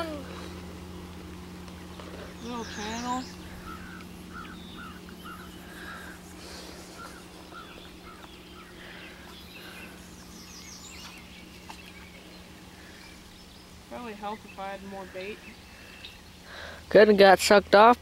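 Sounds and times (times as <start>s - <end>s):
low hum: 0.0s - 18.0s
bird chirping: 1.0s - 16.4s.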